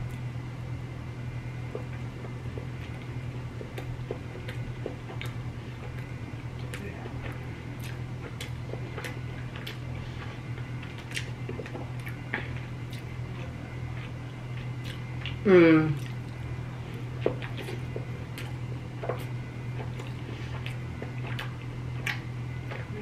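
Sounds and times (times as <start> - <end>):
steady low hum: 0.0 - 23.0
close chewing with wet smacks: 1.6 - 15.4, 16.0 - 23.0.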